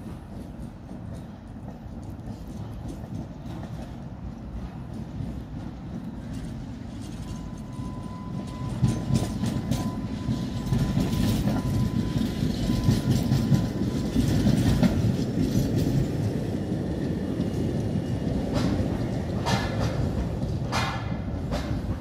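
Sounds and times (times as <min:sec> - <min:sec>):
tram rumbling past: 0:00.0 - 0:22.0
wheels clacking on track: 0:00.0 - 0:22.0.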